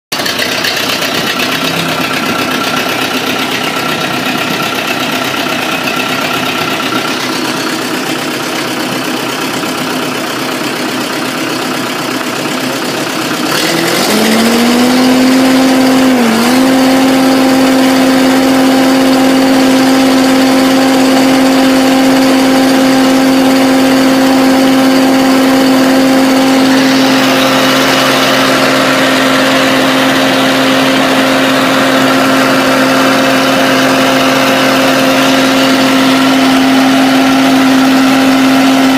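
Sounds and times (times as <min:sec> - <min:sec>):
diesel engine idling and revving: 0:00.1 - 0:38.9.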